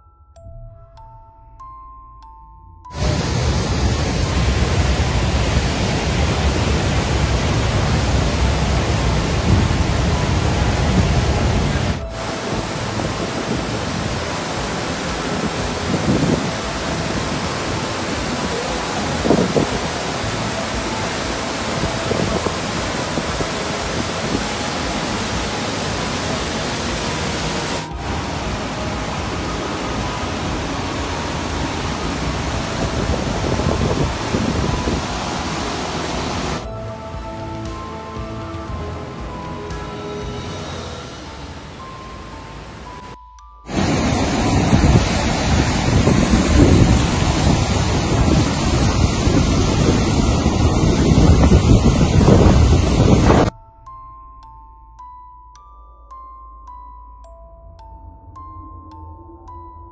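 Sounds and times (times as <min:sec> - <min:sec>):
chime-like music notes: 0:00.0 - 0:59.9
loud steady rushing noise: 0:02.9 - 0:53.5
heavy rain: 0:03.0 - 0:53.5.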